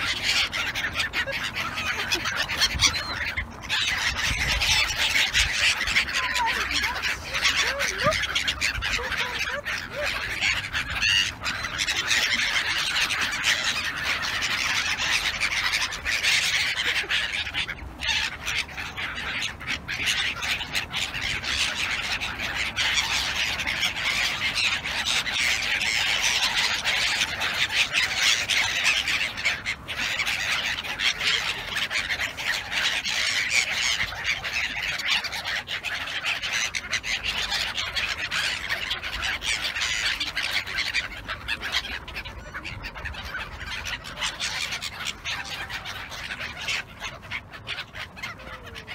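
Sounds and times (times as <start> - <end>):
gulls squawking: 0.0 - 48.9.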